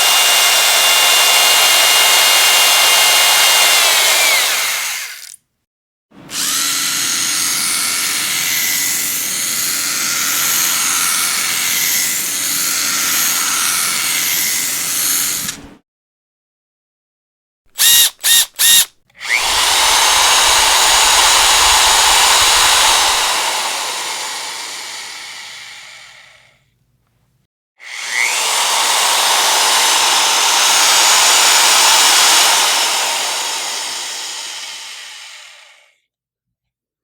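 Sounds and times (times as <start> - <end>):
electric power drill running: 0.0 - 5.4, 6.3 - 15.6, 17.8 - 26.5, 27.8 - 35.8.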